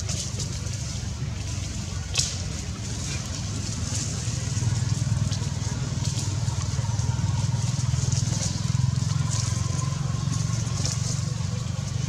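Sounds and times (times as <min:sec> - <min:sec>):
engine running with flutter: 0:00.0 - 0:12.0.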